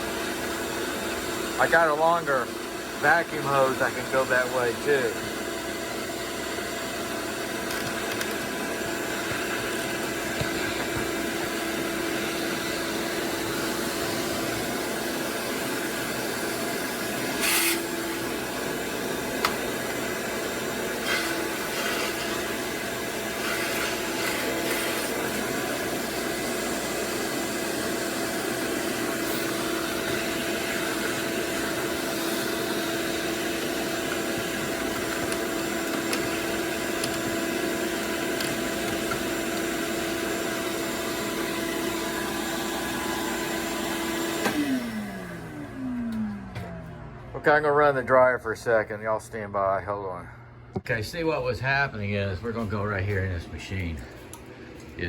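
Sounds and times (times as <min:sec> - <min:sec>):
shop vac running: 0:00.0 - 0:55.0.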